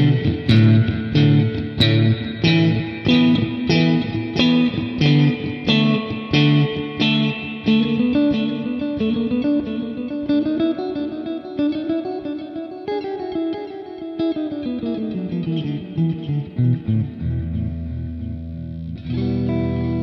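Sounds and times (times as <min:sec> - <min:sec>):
electric guitar picked notes with reverb: 0:00.0 - 0:20.0.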